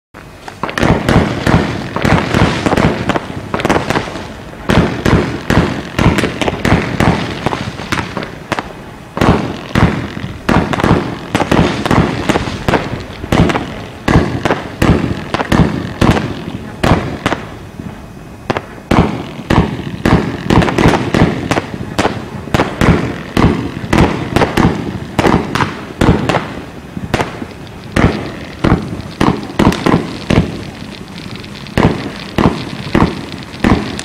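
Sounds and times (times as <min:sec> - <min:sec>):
firework bangs and cracks: 0:00.2 - 0:34.0.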